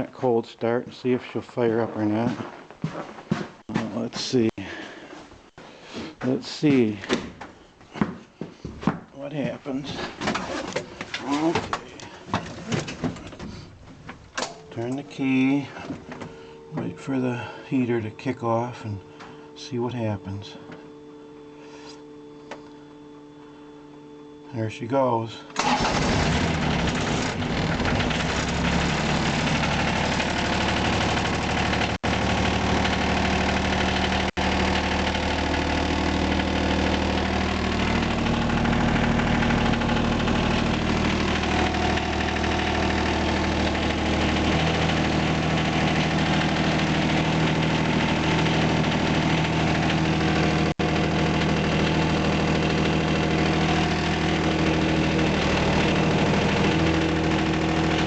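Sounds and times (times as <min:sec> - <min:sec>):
diesel engine running: 0:09.4 - 0:58.0.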